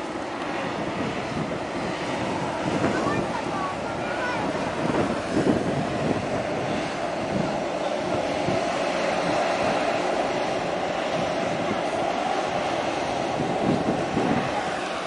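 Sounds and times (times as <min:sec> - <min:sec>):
choppy water: 0:00.0 - 0:15.0
steady drone: 0:00.0 - 0:15.0
wind noise on microphone: 0:00.0 - 0:15.0.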